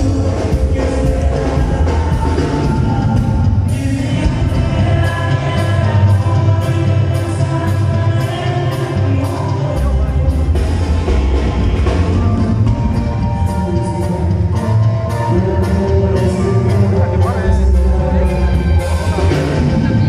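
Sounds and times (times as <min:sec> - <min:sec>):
drums and bass: 0:00.0 - 0:20.0
man singing into a microphone: 0:00.0 - 0:20.0.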